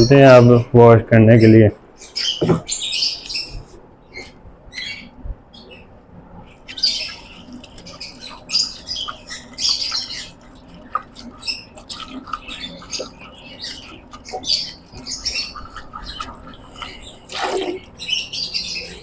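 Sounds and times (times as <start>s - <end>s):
birds squawking and chirping: 1.3s - 19.0s.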